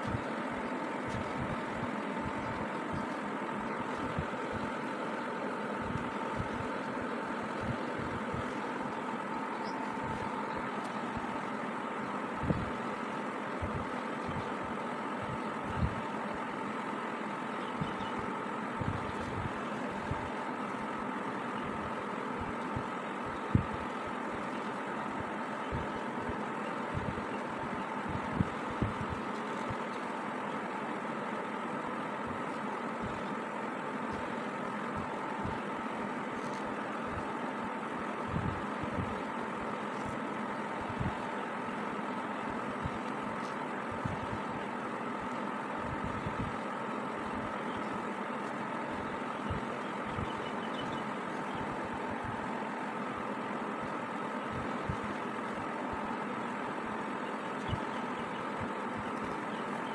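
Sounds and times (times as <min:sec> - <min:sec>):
faint constant tones: 0:00.0 - 0:59.9
steady background hum: 0:00.0 - 0:59.9.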